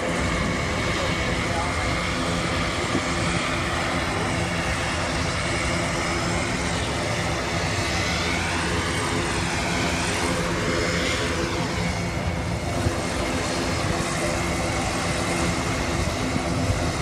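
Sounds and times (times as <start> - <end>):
aircraft engines droning: 0.0 - 17.0.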